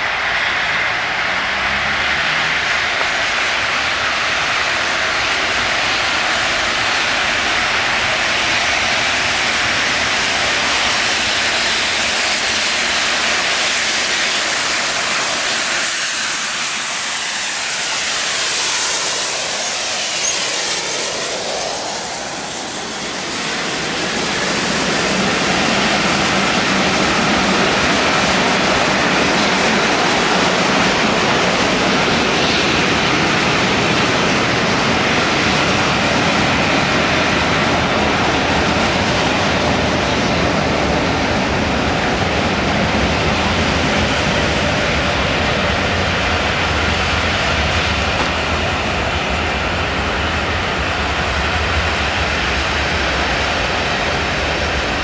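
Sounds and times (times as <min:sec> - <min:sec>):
steam trains rushing past: 0:00.0 - 0:55.0.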